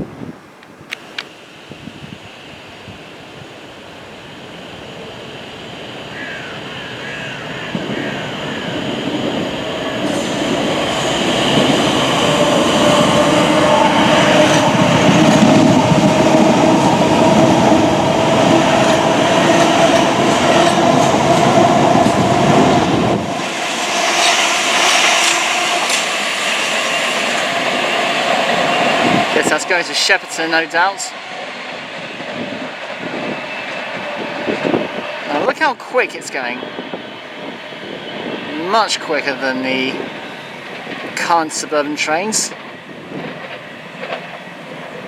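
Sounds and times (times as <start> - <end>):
low rumble of wheels on rail: 0.0 - 45.0
electric train passing: 0.9 - 45.0.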